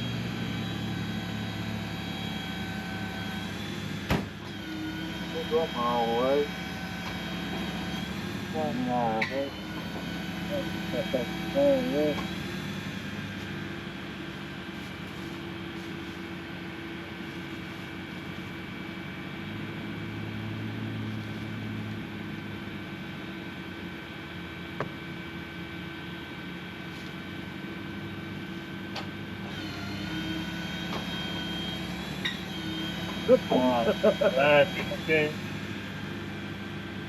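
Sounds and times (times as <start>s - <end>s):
engine running with hum: 0.0s - 37.0s.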